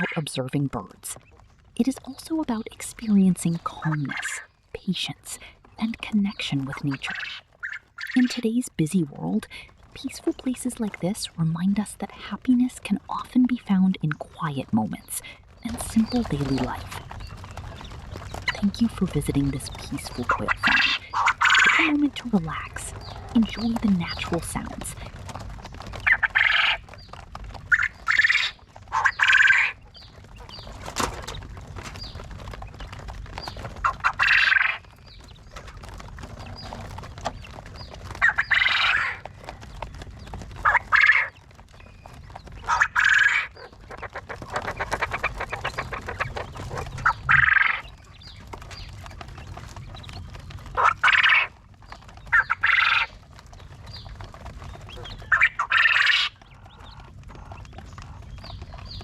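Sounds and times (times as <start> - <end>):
low steady background noise: 0.0 - 59.0
quails calling: 0.0 - 59.0.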